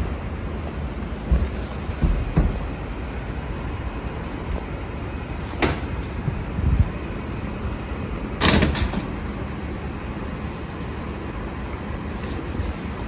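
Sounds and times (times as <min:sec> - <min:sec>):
garbage truck rumbling: 0:00.0 - 0:13.0.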